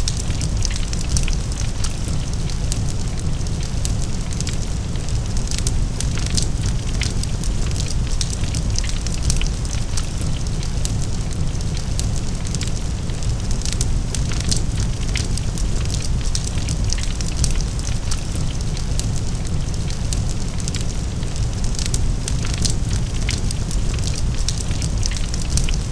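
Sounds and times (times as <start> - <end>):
fire crackling and popping: 0.0 - 25.9
fire rumbling: 0.0 - 25.9.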